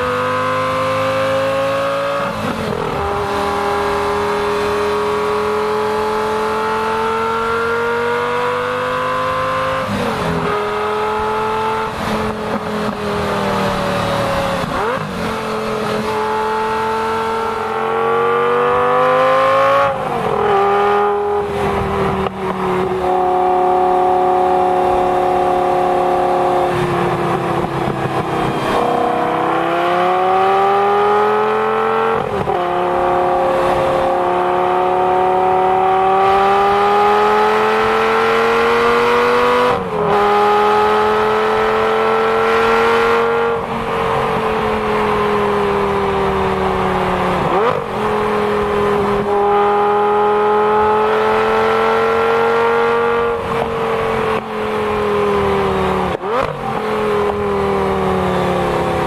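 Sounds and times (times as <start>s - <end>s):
car exhaust roaring: 0.0s - 59.0s.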